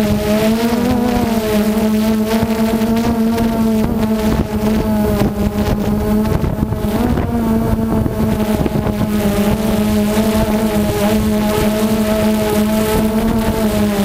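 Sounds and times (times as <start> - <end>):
drone propellers whining: 0.0 - 14.0
wind buffeting microphone: 0.0 - 14.0.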